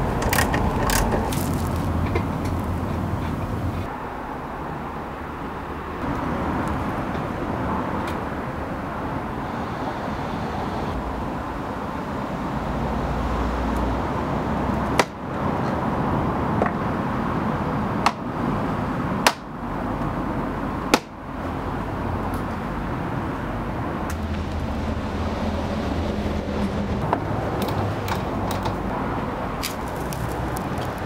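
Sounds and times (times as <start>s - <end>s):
outdoor background noise: 0.0s - 31.0s.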